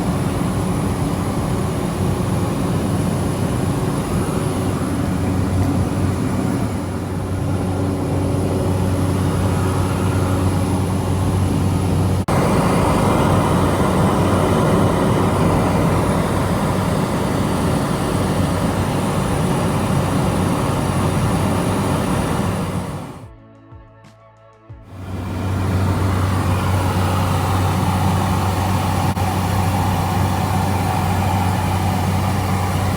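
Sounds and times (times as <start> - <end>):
propeller aircraft engines in cabin: 0.0 - 23.3, 24.9 - 32.9.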